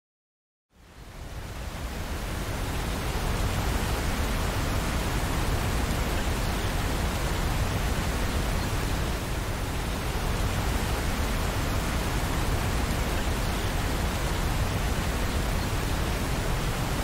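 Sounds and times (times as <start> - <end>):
steady rain: 0.7 - 17.0.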